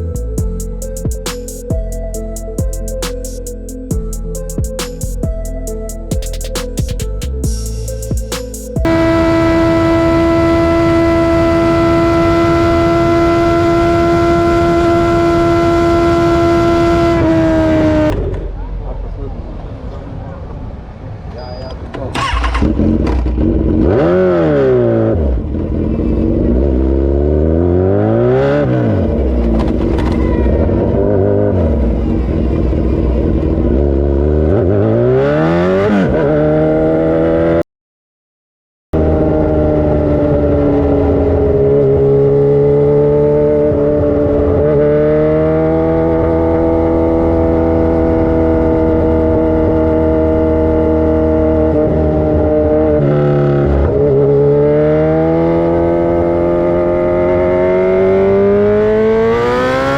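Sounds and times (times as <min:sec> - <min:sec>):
motorcycle engine revving: 0:06.1 - 0:18.6, 0:22.1 - 0:37.6, 0:39.0 - 0:59.9.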